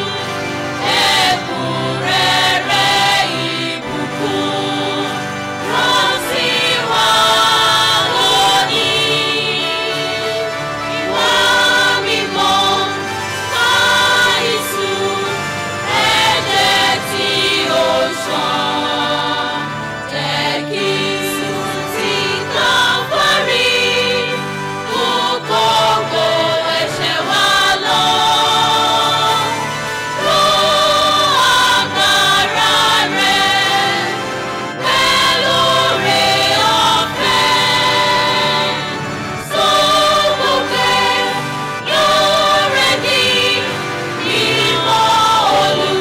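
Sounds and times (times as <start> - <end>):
choir singing: 0.0 - 46.0.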